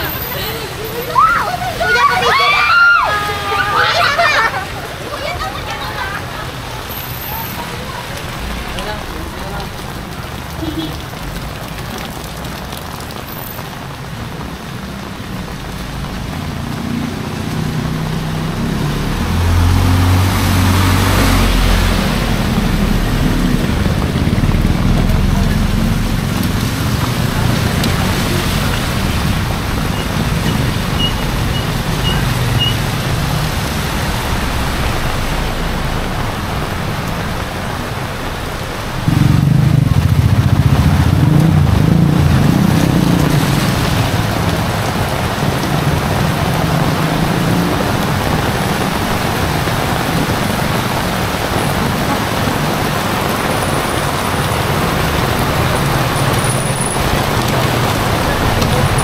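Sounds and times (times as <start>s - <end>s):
heavy rain falling: 0.0s - 59.0s
rumble of road vehicles: 0.0s - 59.0s.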